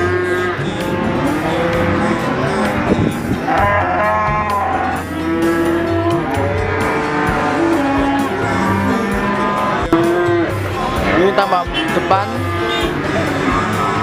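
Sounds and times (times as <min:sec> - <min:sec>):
background music: 0:00.0 - 0:14.0
cattle mooing: 0:00.0 - 0:14.0.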